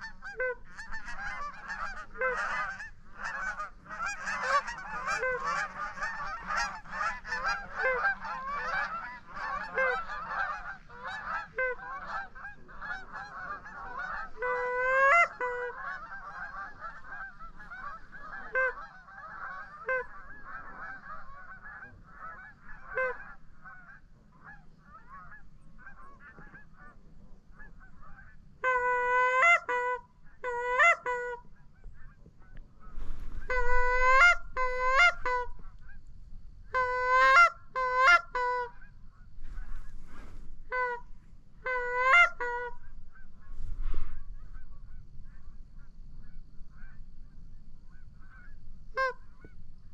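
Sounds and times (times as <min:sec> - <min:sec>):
geese honking: 0:00.0 - 0:36.1, 0:36.7 - 0:49.6.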